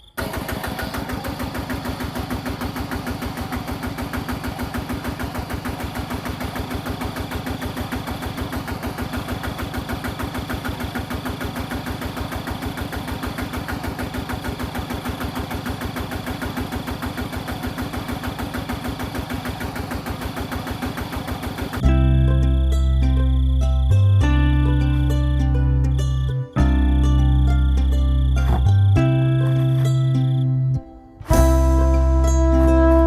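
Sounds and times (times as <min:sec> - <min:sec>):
small diesel engine idling: 0:00.0 - 0:30.5.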